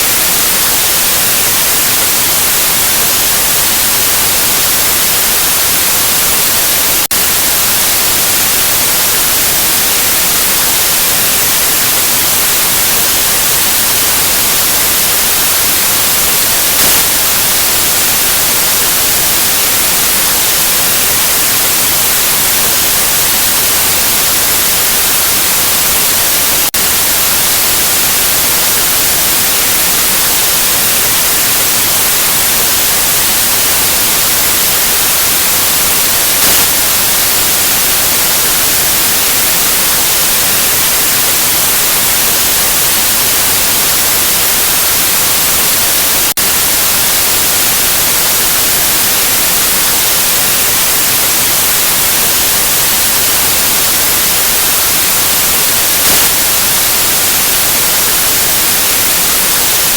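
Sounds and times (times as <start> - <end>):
loud white noise: 0.0 - 59.9.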